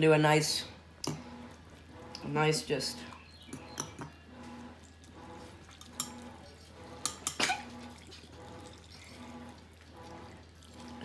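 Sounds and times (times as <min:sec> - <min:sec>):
metal spoon stirring noodles: 0:01.0 - 0:11.0.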